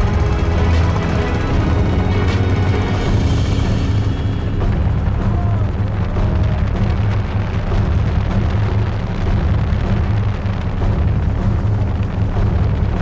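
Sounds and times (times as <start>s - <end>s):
helicopter rotor and engine rumble: 0.0s - 13.0s.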